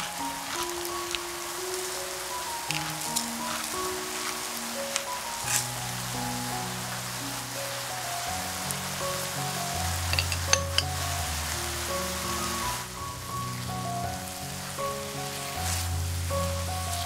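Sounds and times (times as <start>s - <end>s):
background music with held notes: 0.0s - 17.0s
food sizzling in a pan: 0.0s - 17.0s.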